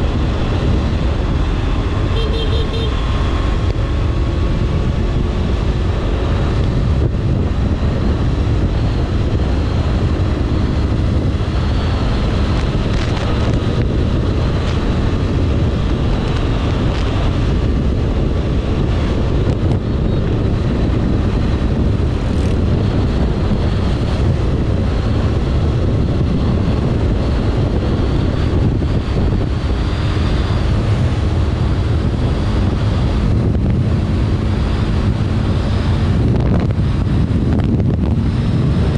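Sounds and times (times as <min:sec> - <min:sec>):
motorcycle engine running: 0:00.0 - 0:38.9
wind roaring over microphone: 0:00.0 - 0:38.9.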